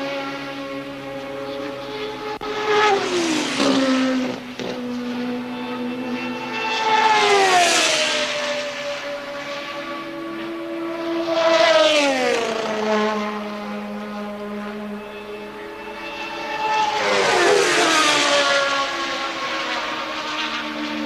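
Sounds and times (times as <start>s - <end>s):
racing cars passing by: 0.0s - 21.0s
steady racing engines: 0.0s - 21.0s.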